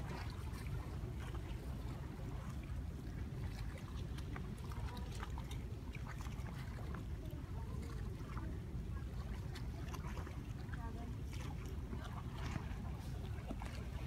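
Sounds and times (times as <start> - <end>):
light water splashes: 0.0 - 14.0
waves lapping against rocks: 0.0 - 14.0.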